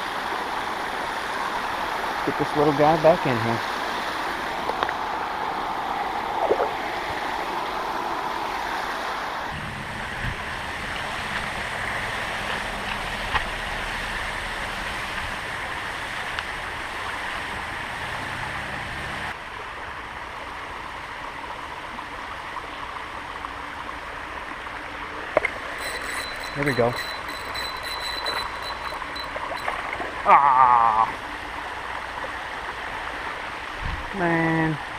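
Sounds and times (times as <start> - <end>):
creek water rushing: 0.0 - 27.1, 28.0 - 34.9.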